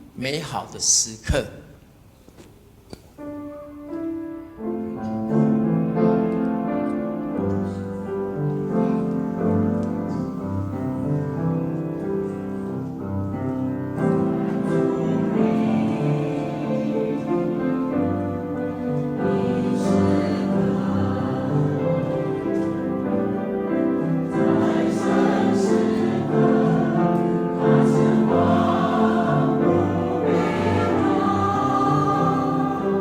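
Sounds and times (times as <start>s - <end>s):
piano accompaniment: 3.2s - 33.0s
choir singing a hymn: 5.2s - 33.0s.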